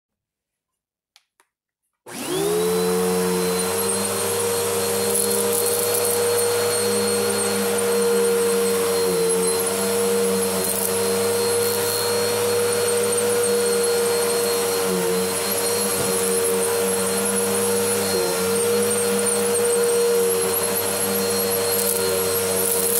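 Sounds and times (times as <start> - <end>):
vacuum cleaner motor whine: 2.1 - 22.9.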